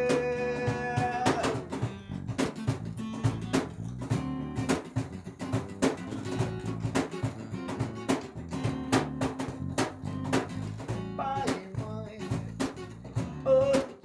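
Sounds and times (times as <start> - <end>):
pop-rock band playing: 0.0 - 14.0.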